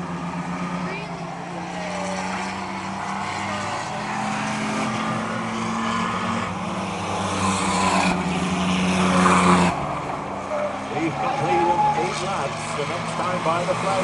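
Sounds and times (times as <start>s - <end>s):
race truck engines droning: 0.0s - 14.0s.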